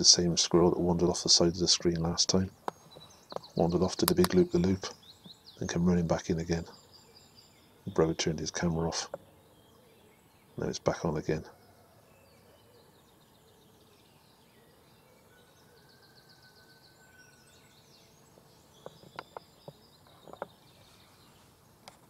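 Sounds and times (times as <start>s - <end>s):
distant birdsong: 0.0s - 22.0s.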